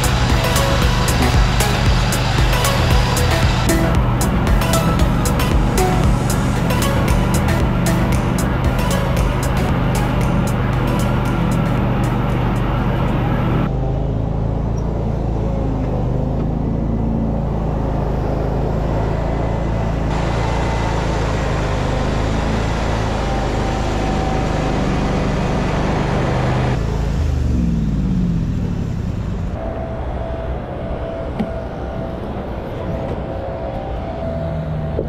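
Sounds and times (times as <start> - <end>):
mower engine running: 0.0 - 30.8.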